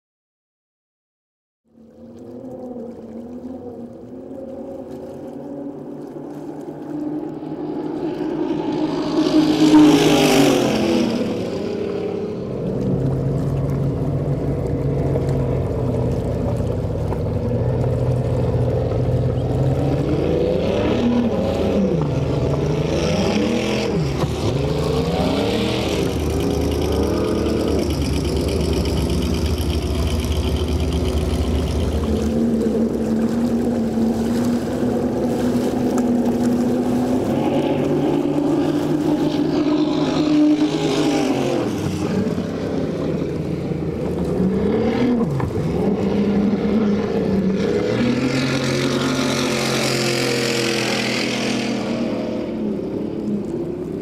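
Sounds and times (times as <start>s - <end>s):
speedboat engine running: 1.6s - 54.0s.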